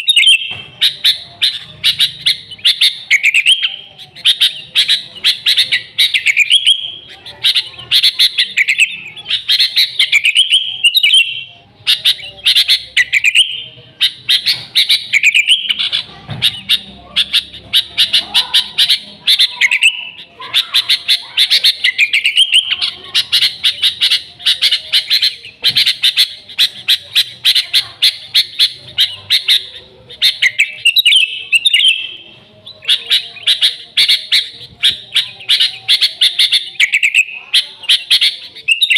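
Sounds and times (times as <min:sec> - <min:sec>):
bulbul chattering calls: 0:00.0 - 0:38.9.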